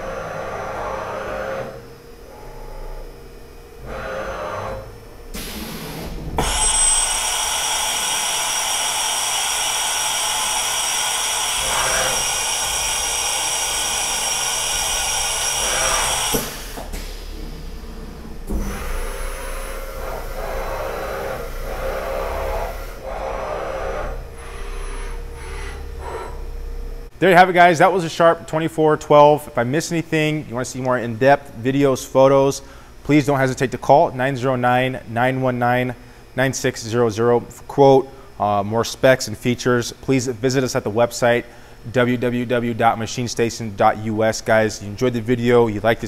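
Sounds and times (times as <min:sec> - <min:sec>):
machining center hissing whir: 0:00.0 - 0:46.0
uneven machine noise: 0:00.0 - 0:46.0.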